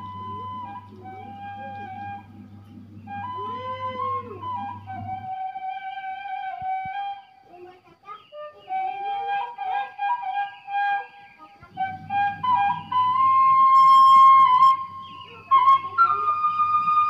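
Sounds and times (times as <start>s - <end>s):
solo flute melody: 0.0s - 7.6s, 8.3s - 17.0s
low steady hum: 0.0s - 17.0s.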